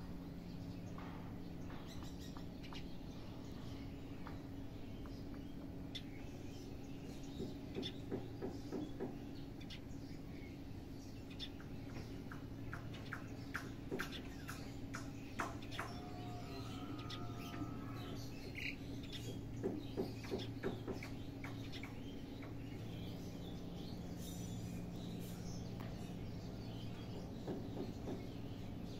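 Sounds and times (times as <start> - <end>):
small birds chirping: 0.0 - 28.9
steady low hum: 0.0 - 28.9.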